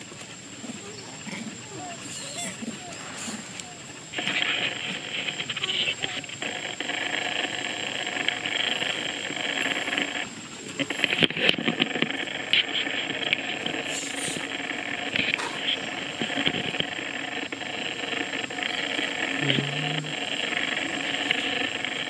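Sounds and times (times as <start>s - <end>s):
continuous high hiss: 0.0s - 22.0s.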